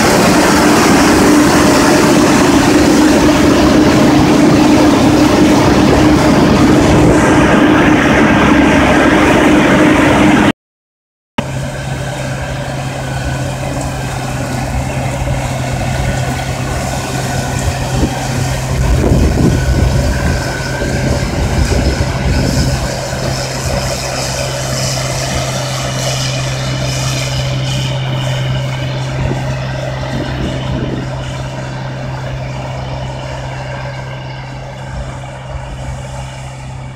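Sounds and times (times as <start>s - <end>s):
diesel engine drone: 0.0s - 10.6s, 11.4s - 36.9s.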